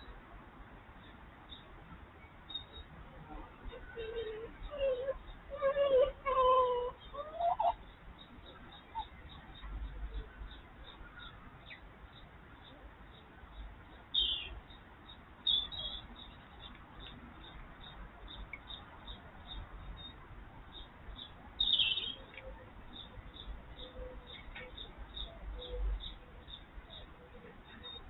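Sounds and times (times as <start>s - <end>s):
small birds chirping: 3.6s - 28.0s.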